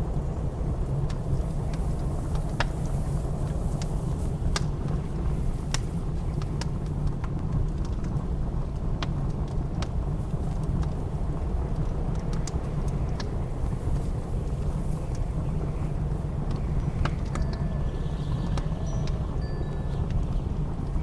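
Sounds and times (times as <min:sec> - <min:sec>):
blizzard wind low rumble: 0:00.0 - 0:21.0
wood fire crackling and popping: 0:00.0 - 0:21.0.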